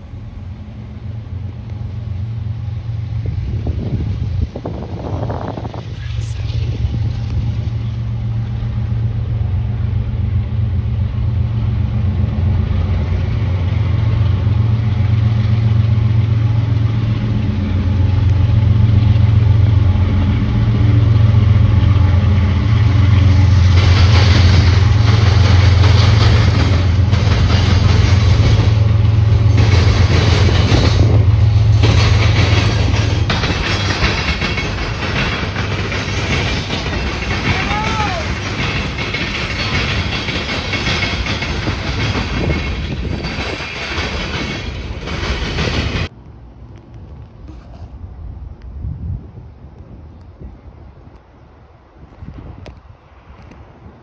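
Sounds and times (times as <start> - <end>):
diesel locomotive engine rumble: 0.0 - 54.0
steel wheels rushing on rail: 0.0 - 54.0.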